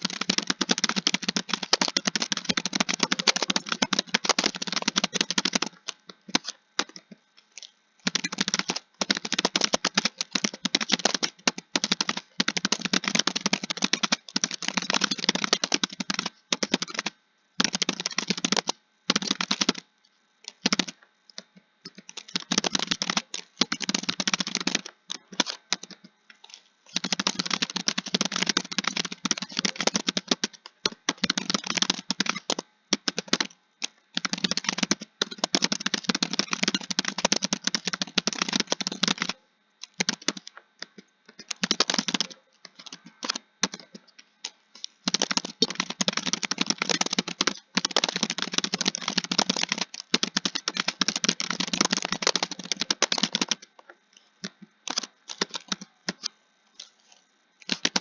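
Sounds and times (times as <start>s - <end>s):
fast typing on keyboard: 0.0s - 19.9s, 20.5s - 53.7s, 54.4s - 56.3s, 57.6s - 58.0s.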